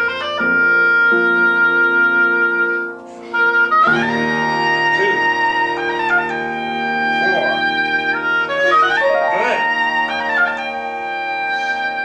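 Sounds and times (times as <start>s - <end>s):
oboe playing held notes: 0.0s - 12.0s.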